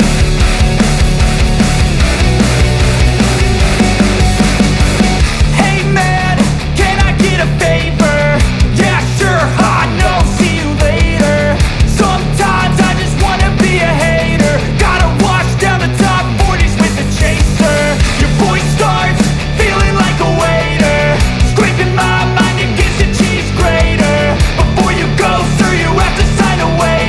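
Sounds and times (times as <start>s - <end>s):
instrumental rock music: 0.0s - 27.0s.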